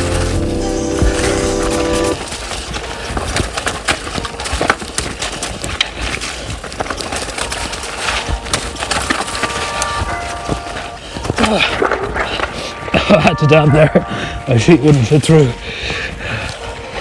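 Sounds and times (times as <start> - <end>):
bike rattling over rocky trail: 0.0 - 17.0.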